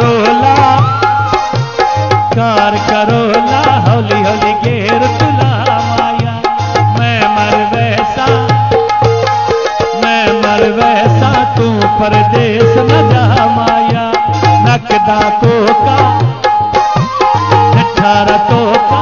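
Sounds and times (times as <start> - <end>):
tabla rhythm: 0.0 - 19.0
winding melody line: 0.0 - 19.0.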